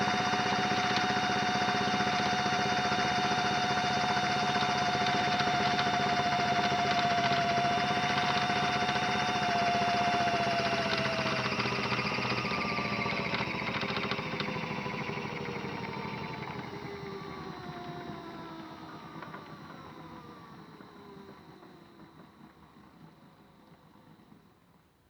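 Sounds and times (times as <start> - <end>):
small electric motor whining: 0.0 - 23.3.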